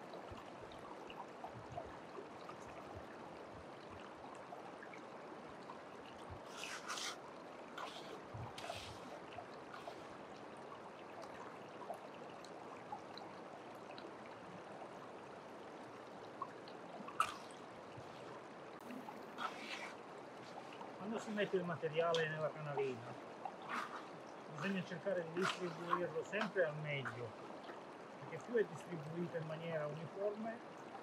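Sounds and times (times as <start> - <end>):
creek water running: 0.0 - 31.0.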